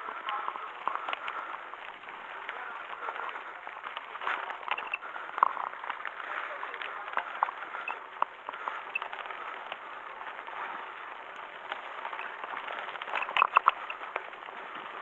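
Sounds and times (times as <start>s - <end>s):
bicycle tyres on dirt trail: 0.0s - 15.0s
small clicks and crackles: 0.0s - 15.0s.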